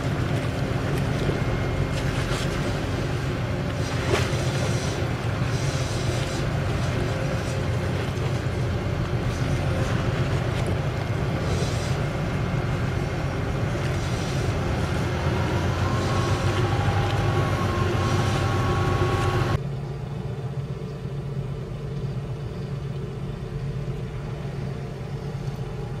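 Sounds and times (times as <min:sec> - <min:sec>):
diesel engines low rumble: 0:00.0 - 0:26.0.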